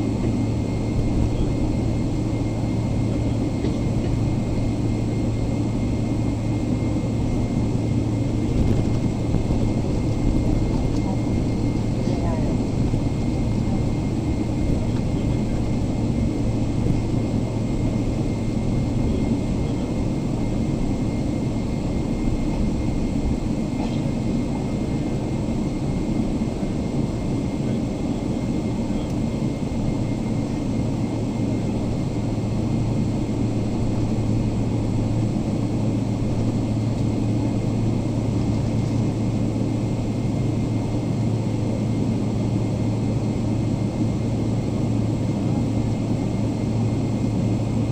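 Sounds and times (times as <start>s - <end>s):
air-conditioning rush and hum: 0.0s - 47.9s.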